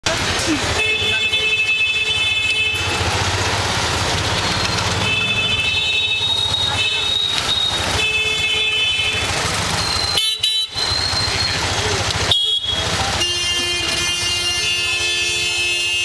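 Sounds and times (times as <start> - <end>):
traffic engines rumbling: 0.0 - 16.0
vehicle horns honking: 0.6 - 3.3, 4.6 - 16.0.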